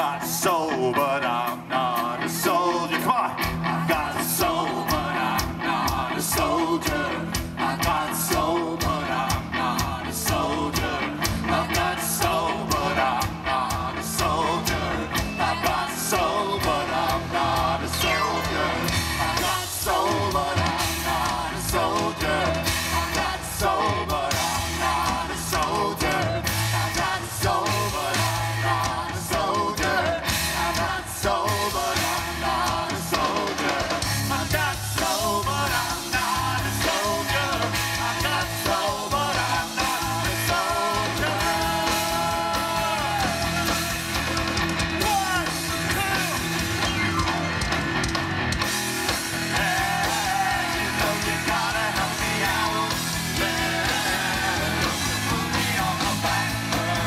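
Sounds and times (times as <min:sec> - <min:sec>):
person singing: 0:00.0 - 0:44.3, 0:45.0 - 0:46.6, 0:49.4 - 0:57.0
live rock band playing: 0:00.0 - 0:57.0.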